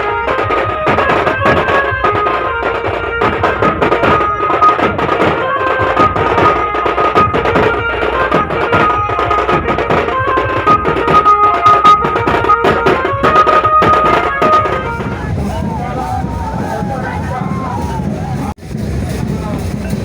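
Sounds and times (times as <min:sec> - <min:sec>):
drum-led music over loudspeakers: 0:00.0 - 0:20.0.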